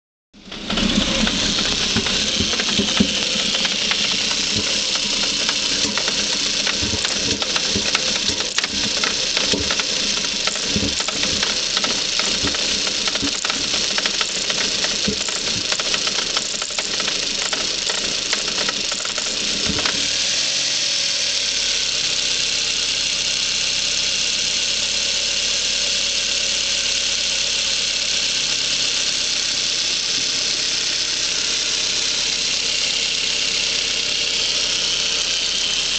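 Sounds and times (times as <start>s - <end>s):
car engine idling roughly: 0.4s - 35.9s.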